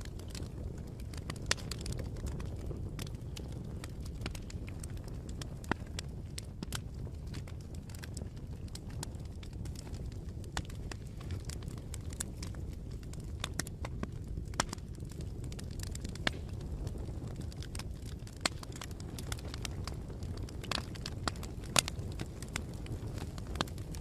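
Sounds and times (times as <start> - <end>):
fire crackles and pops: 0.0 - 24.0
wood fire rumbling: 0.0 - 24.0.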